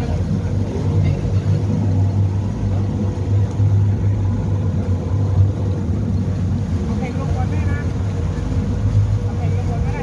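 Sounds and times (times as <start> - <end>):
outboard engines droning: 0.0 - 10.0.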